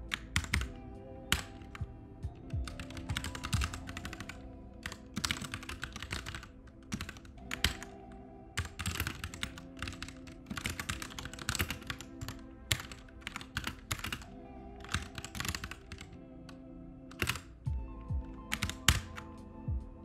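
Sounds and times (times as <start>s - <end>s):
typing on keyboard: 0.0s - 17.8s, 18.4s - 19.4s
background music: 0.0s - 20.0s.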